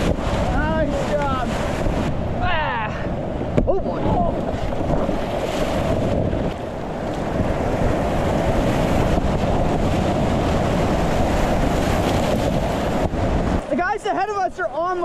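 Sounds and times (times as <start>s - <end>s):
rushing whitewater: 0.0s - 15.0s
wind buffeting microphone: 0.0s - 15.0s.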